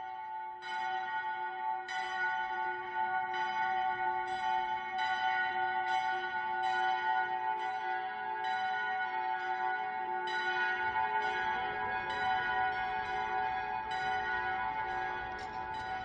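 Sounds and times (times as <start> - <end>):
bells ringing: 0.0 - 16.0.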